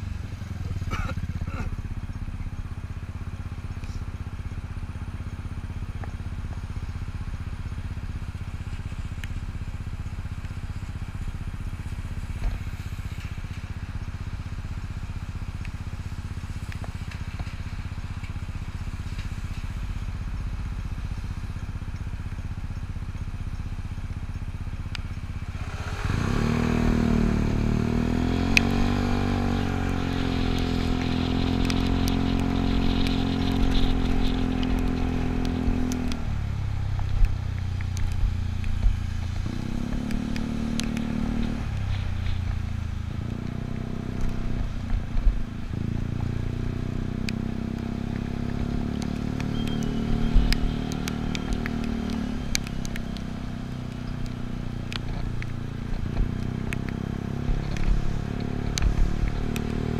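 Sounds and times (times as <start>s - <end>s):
scooter engine idling and revving: 0.0s - 59.9s.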